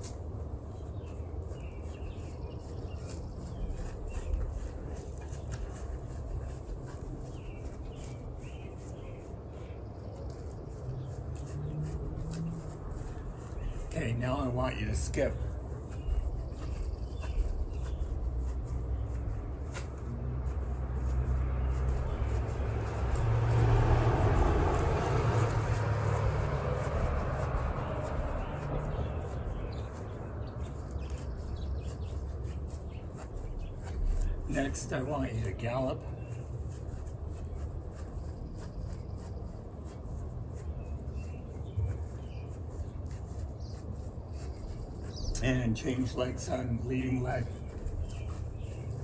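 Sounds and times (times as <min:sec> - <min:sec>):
road traffic rumble: 0:00.0 - 0:49.0
vehicle passing by: 0:02.8 - 0:49.0.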